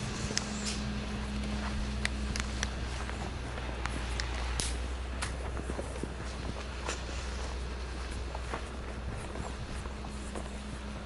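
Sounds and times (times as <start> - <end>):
soft footsteps: 0.0 - 11.0
steady low hum: 0.0 - 11.0.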